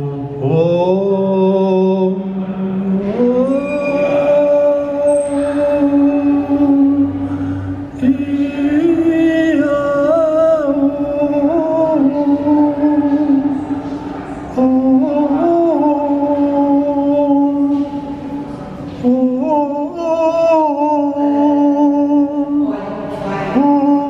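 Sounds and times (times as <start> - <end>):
low background noise: 0.0 - 24.0
person chanting long tones: 0.0 - 24.0.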